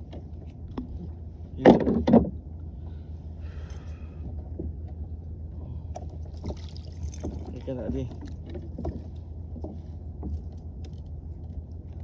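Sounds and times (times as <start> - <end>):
steady low rumble: 2.3 - 12.0.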